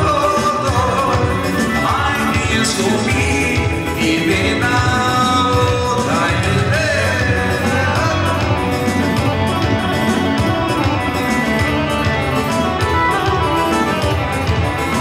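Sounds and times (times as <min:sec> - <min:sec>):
dance music with singer and keyboard: 0:00.0 - 0:15.0.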